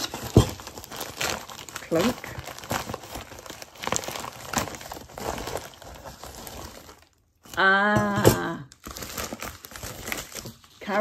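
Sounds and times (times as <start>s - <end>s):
plastic bag crinkling: 0.0s - 7.6s, 8.7s - 11.0s.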